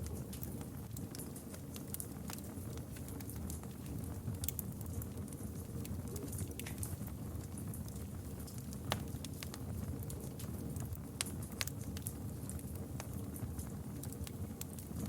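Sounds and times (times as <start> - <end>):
burning wood crackling and popping: 0.0 - 15.0
campfire flames roaring: 0.0 - 15.0.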